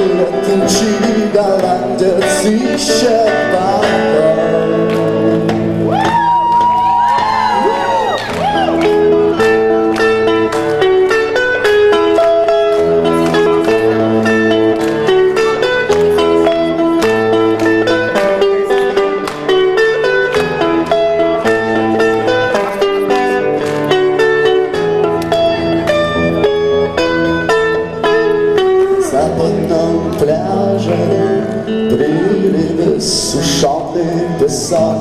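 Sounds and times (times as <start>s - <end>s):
rock band playing instrumental: 0.0s - 34.8s
bass line: 0.0s - 35.0s
electric guitar: 0.0s - 35.0s.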